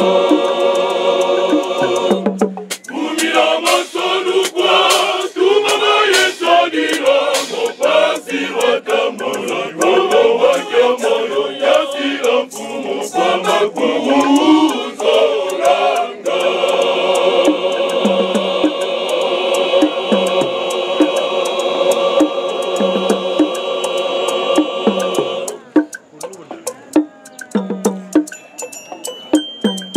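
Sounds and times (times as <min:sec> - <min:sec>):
men's choir singing unaccompanied: 0:00.0 - 0:26.6.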